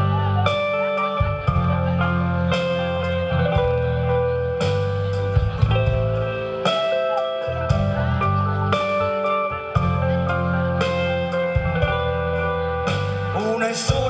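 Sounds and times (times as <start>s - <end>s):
bass guitar: 0.0s - 14.0s
drum kit with cymbal hits: 0.0s - 14.0s
guitar holding long notes: 0.0s - 14.0s.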